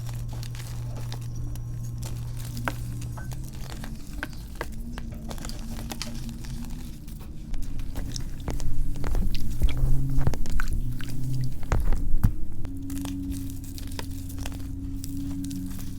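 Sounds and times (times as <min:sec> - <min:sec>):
chalk crunching by hand: 0:00.0 - 0:15.9
small crackles: 0:00.0 - 0:15.9.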